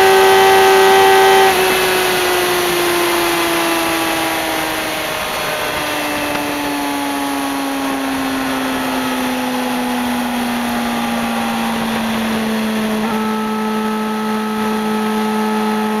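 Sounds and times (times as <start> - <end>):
constant rushing noise: 0.0 - 16.0
motorcycle engine cruising: 0.0 - 16.0.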